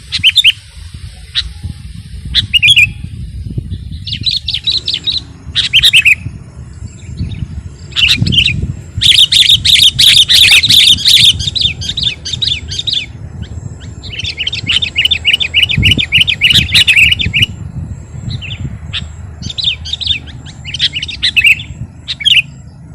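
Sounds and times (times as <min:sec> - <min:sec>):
bulbul chattering song: 0:00.0 - 0:22.9
low steady rumble: 0:00.0 - 0:22.9.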